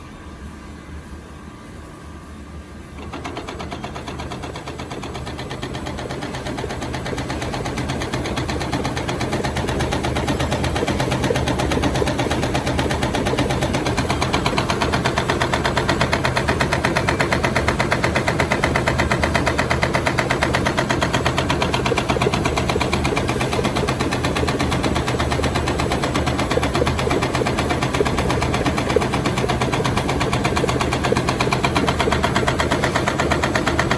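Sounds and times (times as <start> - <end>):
cutting machine pulsing: 3.0 - 33.9.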